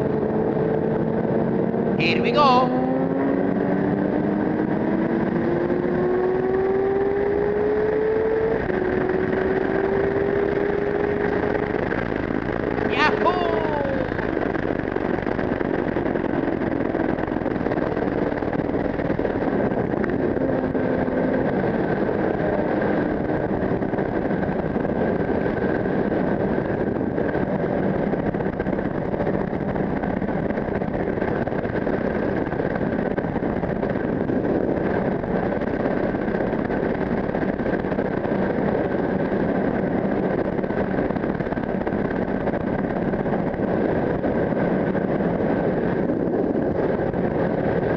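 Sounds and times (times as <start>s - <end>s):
motorcycle engine: 0.0s - 47.9s
wind rushing on microphone: 0.0s - 47.9s.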